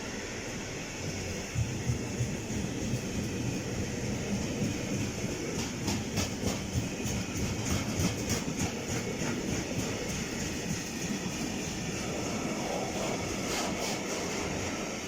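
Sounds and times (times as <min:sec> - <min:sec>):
train rumbling on track: 0:00.0 - 0:15.0
wheels clicking over rail joints: 0:01.5 - 0:14.6.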